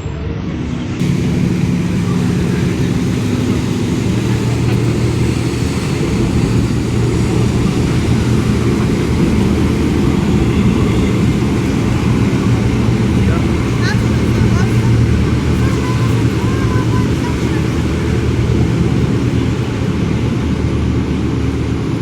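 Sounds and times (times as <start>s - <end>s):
heavy engine humming: 0.0s - 22.0s.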